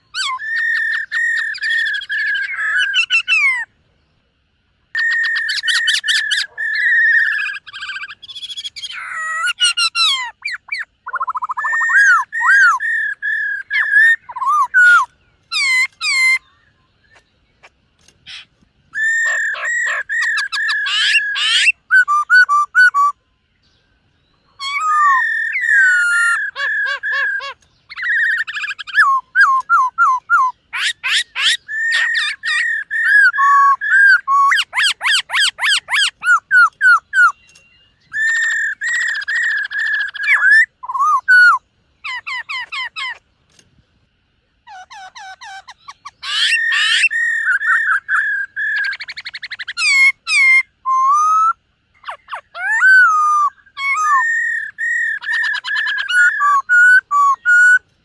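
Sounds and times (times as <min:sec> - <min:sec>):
bird singing whistled phrases: 0:00.0 - 0:03.7, 0:05.0 - 0:17.3, 0:18.3 - 0:43.2, 0:44.9 - 0:57.8.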